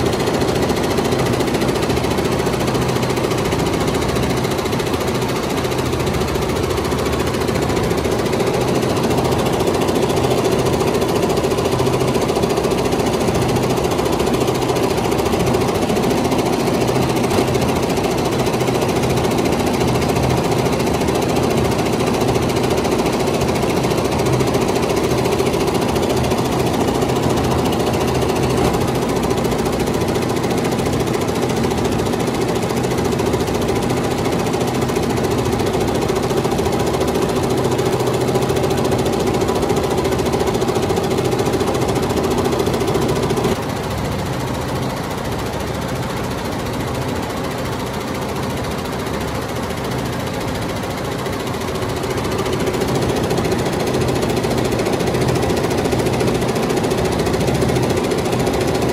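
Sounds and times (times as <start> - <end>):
embroidery machine needle clatter: 0.0 - 43.6, 46.9 - 58.9.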